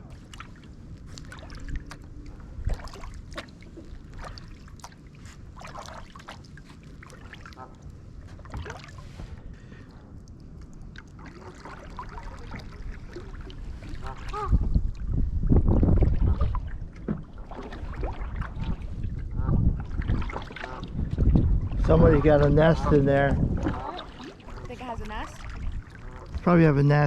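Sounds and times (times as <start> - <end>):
steady low rumble: 0.0 - 5.6, 6.4 - 27.0
paddle splashing in water: 0.0 - 27.0.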